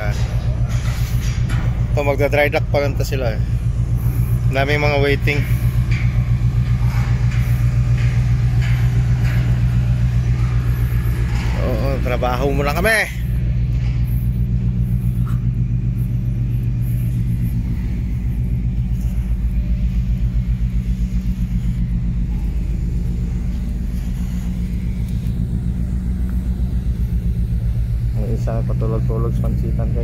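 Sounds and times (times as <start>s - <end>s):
heavy machinery droning: 0.0s - 30.0s.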